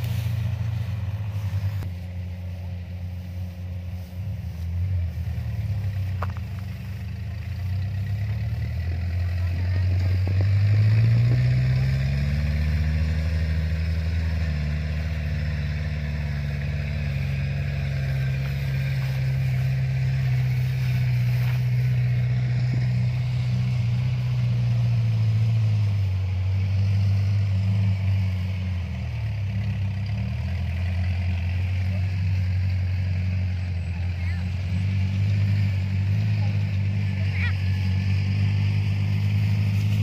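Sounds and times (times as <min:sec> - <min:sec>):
combine diesel engine drone: 0:00.0 - 0:40.0.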